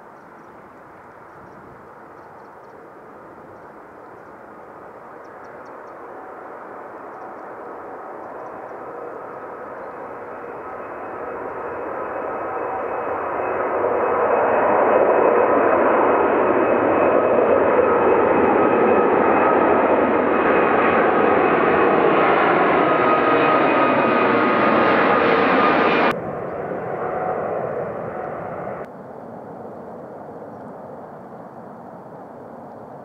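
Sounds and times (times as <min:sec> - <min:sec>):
jet engine roar: 0:00.2 - 0:33.0.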